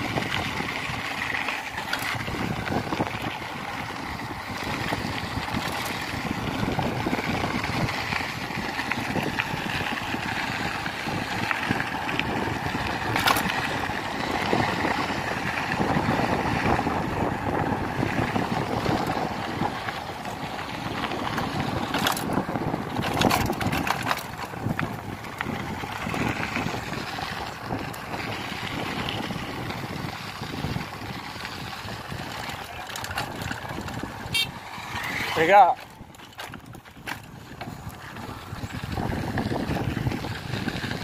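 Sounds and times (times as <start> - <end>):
bike rattling over bumps: 0.0 - 41.0
tyres rolling over dirt road: 0.0 - 41.0
wind buffeting microphone: 0.0 - 41.0.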